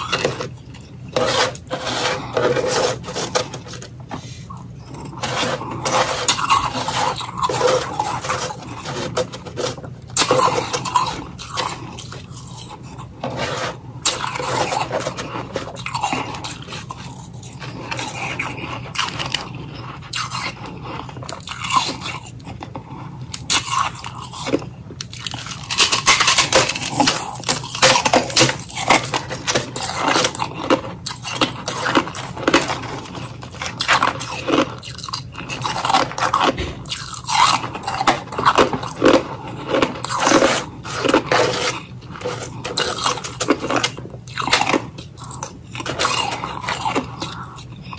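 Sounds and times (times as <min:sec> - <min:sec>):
ice crunched between teeth: 0:04.8 - 0:47.9.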